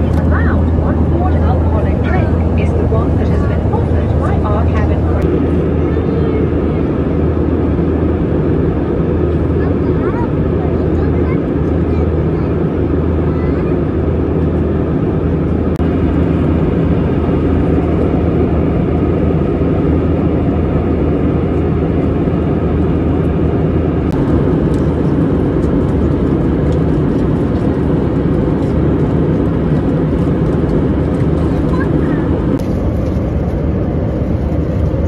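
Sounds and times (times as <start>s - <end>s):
airliner cabin engine and airflow noise: 0.0s - 35.0s
low hum: 0.0s - 35.0s.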